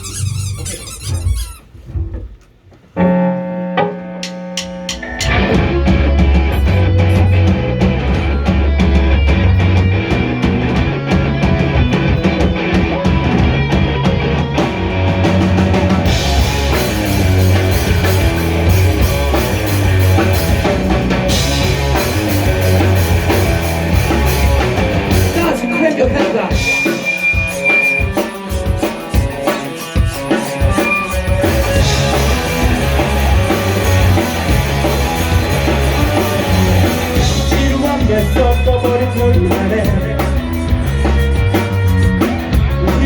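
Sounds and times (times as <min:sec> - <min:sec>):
bass guitar: 0:00.0 - 0:02.3, 0:03.0 - 0:43.0
electric guitar: 0:03.0 - 0:43.0
drum kit: 0:03.8 - 0:43.0.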